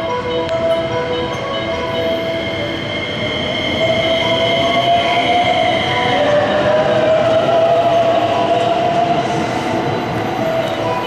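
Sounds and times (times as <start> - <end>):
train wheels on rails: 0.1 - 11.0.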